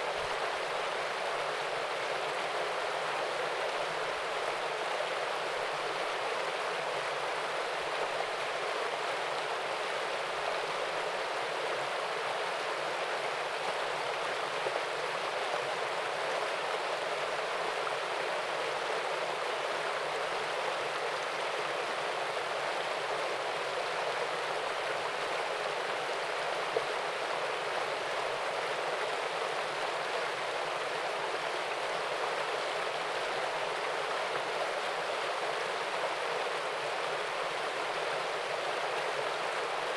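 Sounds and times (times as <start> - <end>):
waterfall splashing and rushing: 0.0 - 39.9.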